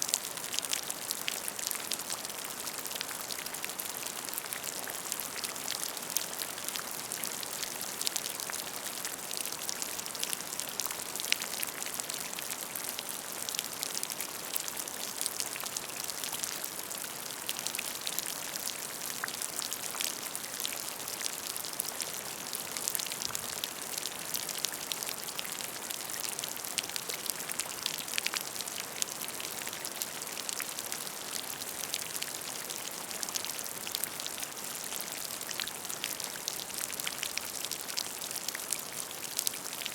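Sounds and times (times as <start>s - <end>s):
rain falling on a puddle: 0.0s - 39.9s.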